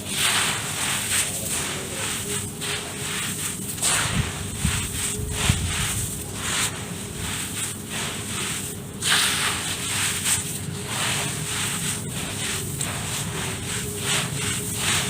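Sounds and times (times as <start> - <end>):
hands rustling dirt: 0.0 - 15.0.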